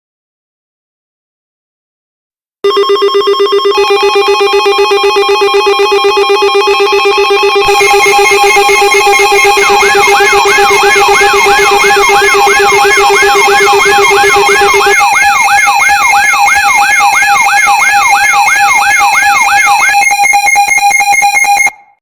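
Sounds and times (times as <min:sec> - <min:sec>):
synthesized alarm siren sweeping: 0:02.7 - 0:22.0.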